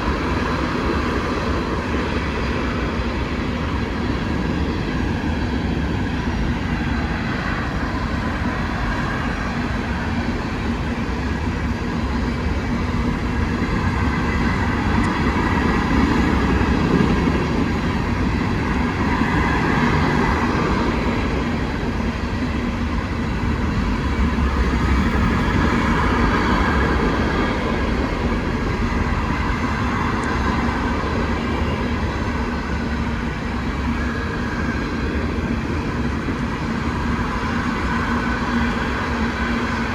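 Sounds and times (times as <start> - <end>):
hopper cars rolling on rails: 0.0 - 39.9.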